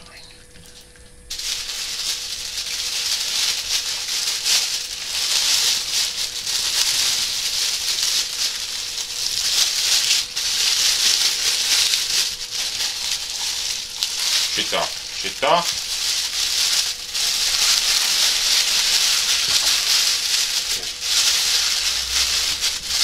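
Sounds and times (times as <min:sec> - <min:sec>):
plastic bag crinkling: 0:00.6 - 0:23.0.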